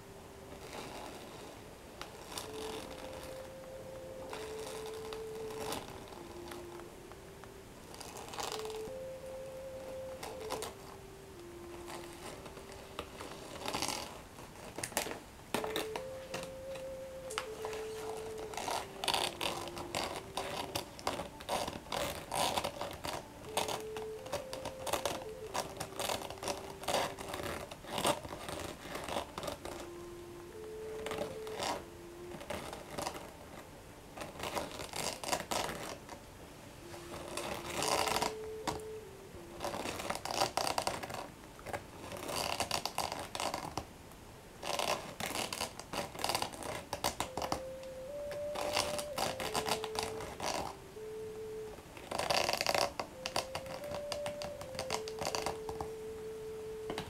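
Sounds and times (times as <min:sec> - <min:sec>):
faint simple tune: 0:00.0 - 0:43.8, 0:44.4 - 0:57.0.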